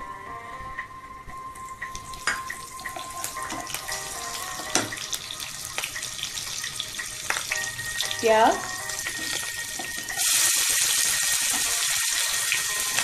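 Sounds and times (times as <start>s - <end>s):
chillies sizzling in hot oil: 1.9s - 13.0s
oil crackling and popping: 1.9s - 13.0s.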